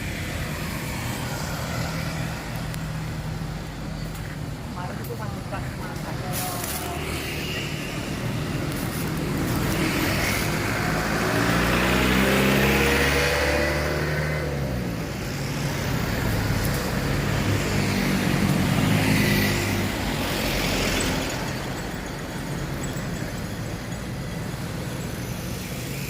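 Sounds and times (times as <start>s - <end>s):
vehicle passing by: 0.0s - 3.9s, 4.8s - 26.0s
steady traffic noise: 0.0s - 26.0s.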